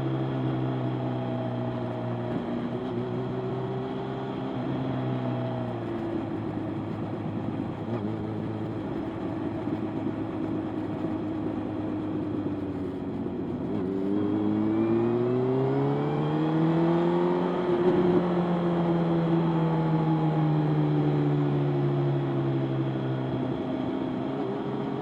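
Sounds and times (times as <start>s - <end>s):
motorcycle engine accelerating: 0.2s - 25.0s.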